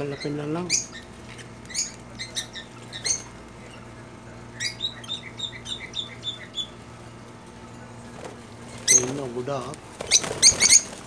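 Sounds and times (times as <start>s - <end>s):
pet birds squawking and chirping: 0.0s - 7.2s, 7.8s - 11.0s
steady low hum: 0.0s - 11.0s.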